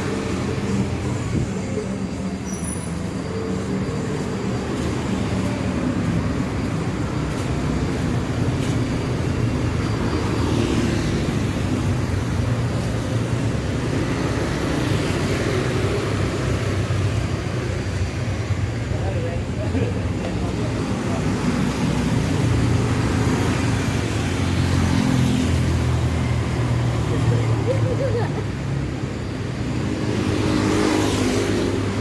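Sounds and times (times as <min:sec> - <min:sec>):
engines humming: 0:00.0 - 0:32.0
vehicles passing: 0:00.0 - 0:32.0.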